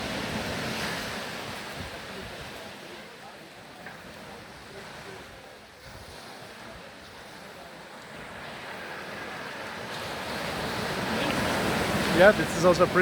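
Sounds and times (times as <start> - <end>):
ocean surf on beach: 0.0 - 13.0.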